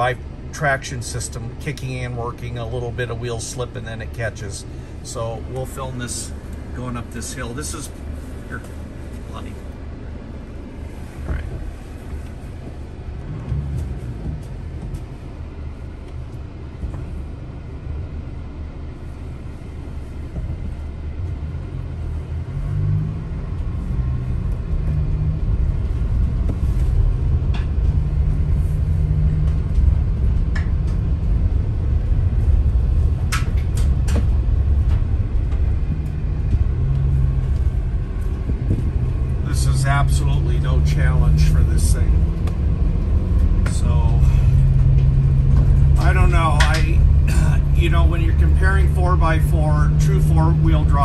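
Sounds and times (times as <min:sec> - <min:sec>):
studded tires on icy gravel: 0:00.0 - 0:51.0
van engine rumble: 0:00.0 - 0:51.0.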